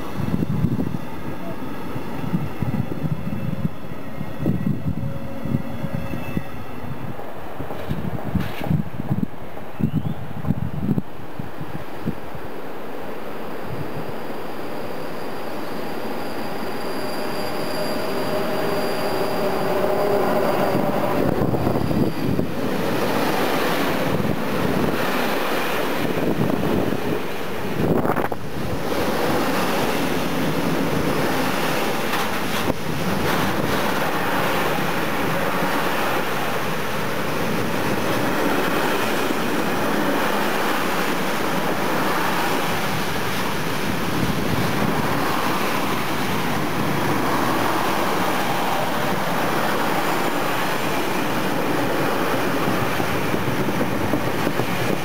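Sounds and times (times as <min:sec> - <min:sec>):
train wheels rumbling on rails: 0:00.0 - 0:12.4, 0:13.1 - 0:55.0.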